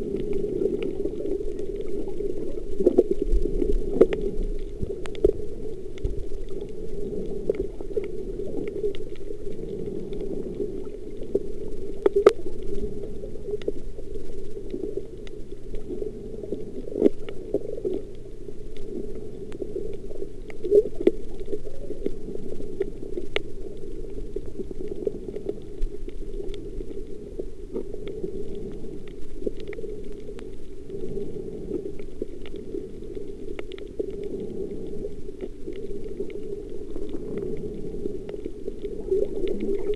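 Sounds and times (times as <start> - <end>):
small clicks and crackles: 0.0 - 39.9
underwater rush of water: 0.0 - 39.9.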